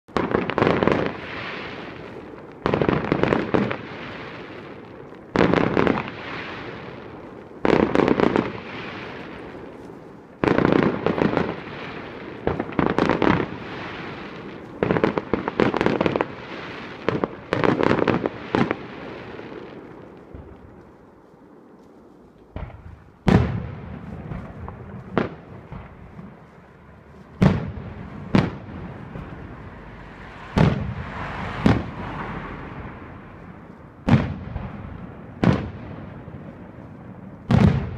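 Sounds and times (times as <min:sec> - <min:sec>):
fireworks crackling bursts: 0:00.1 - 0:37.9.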